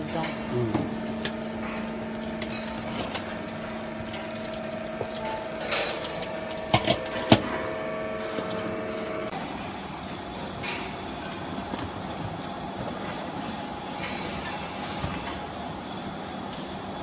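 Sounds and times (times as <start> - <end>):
compactor machine hum: 0.0 - 17.0.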